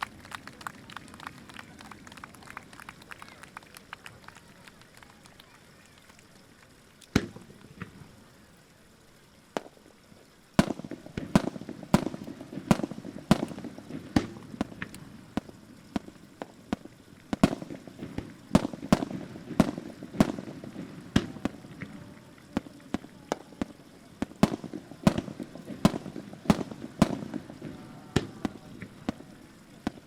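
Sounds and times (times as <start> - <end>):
continuous rumble: 0.0 - 30.0
firework shells bursting: 0.0 - 30.0.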